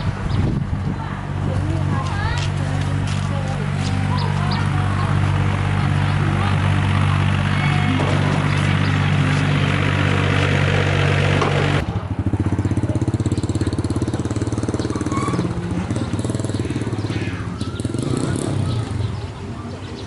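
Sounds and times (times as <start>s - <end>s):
engine humming and idling: 0.0s - 20.0s.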